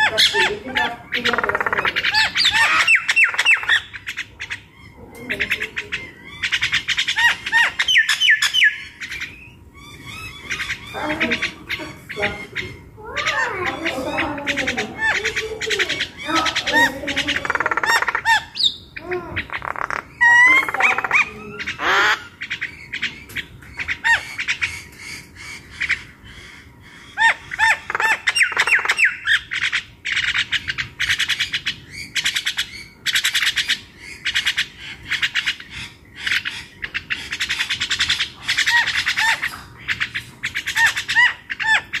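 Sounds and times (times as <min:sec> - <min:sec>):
birds chirping and squawking: 0:00.0 - 0:42.0.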